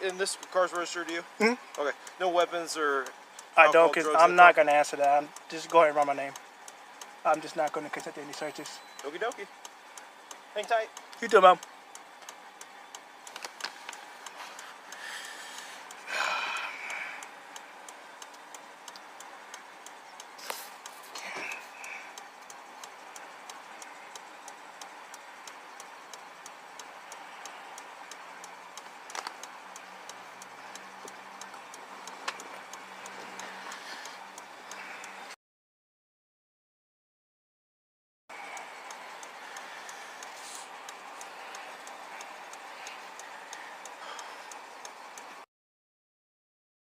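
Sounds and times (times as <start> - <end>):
rapid ticking: 0.0 - 35.4, 38.3 - 45.4
sharp clicks: 0.0 - 35.4, 38.4 - 45.4.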